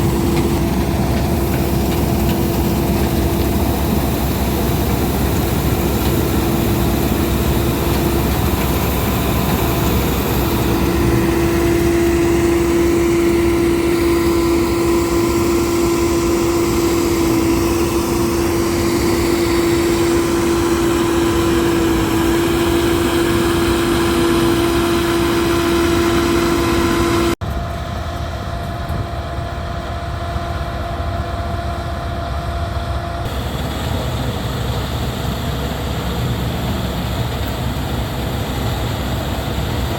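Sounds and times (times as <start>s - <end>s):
combine harvester running: 0.0s - 39.9s
steady whining tone: 0.0s - 39.9s.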